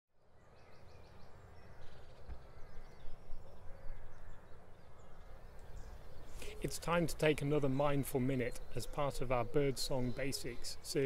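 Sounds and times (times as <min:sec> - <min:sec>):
faint bird song: 0:00.1 - 0:11.0.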